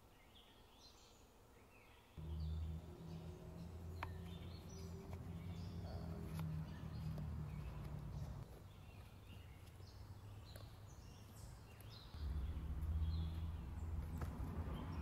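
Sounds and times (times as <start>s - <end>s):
small birds chirping: 0.0s - 15.0s
low outdoor rumble: 2.2s - 15.0s.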